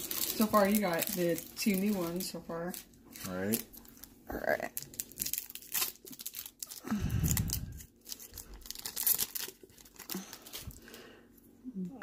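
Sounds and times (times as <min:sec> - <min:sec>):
wrapper tearing and crinkling: 0:00.0 - 0:10.8.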